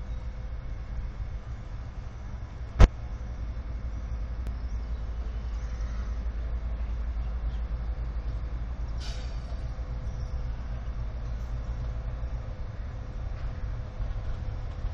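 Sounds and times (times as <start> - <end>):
diesel locomotive rumbling: 0.0 - 14.9.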